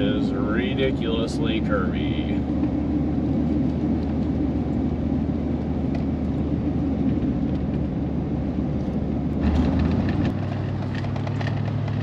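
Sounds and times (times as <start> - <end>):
engine and road noise in cab: 0.0 - 12.0.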